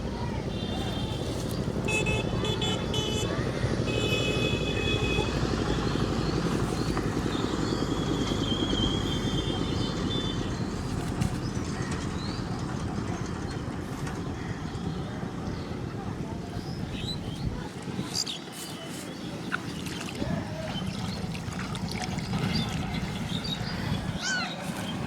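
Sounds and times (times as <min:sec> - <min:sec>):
engine rumbling: 0:00.0 - 0:18.3, 0:19.2 - 0:25.0.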